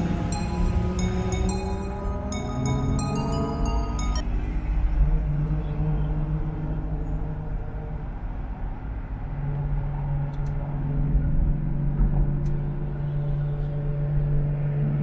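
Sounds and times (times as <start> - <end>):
car engine drone: 0.0 - 15.0
road rumble: 0.0 - 15.0.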